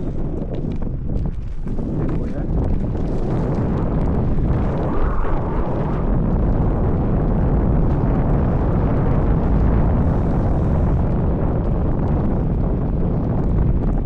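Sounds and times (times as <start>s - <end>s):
electric scooter rumble: 0.0s - 14.0s
wind buffeting microphone: 0.0s - 14.0s.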